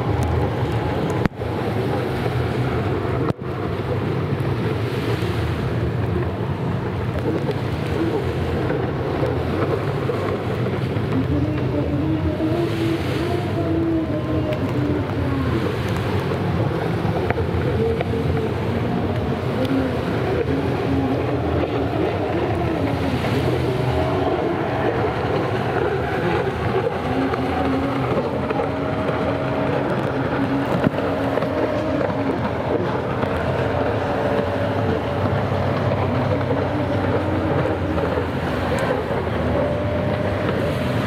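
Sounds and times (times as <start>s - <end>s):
jet ski engines whining: 0.0s - 41.0s
rushing water: 0.0s - 41.0s.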